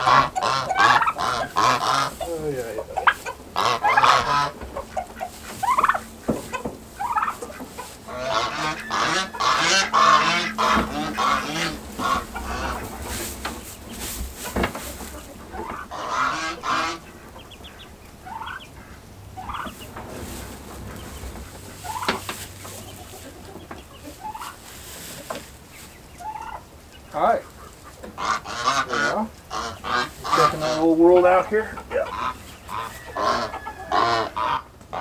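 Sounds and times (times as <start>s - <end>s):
poultry honking: 0.0s - 35.0s.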